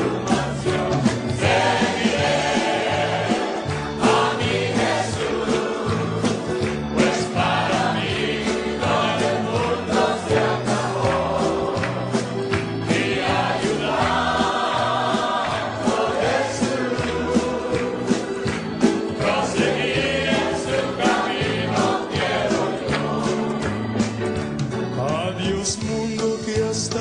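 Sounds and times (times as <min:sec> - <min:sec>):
choir singing gospel song: 0:00.0 - 0:24.5
steady drum beat: 0:00.0 - 0:24.7.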